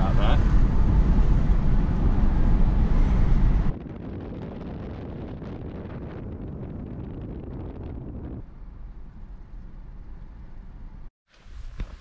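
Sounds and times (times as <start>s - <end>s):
wind and tyre noise: 0.0s - 12.0s.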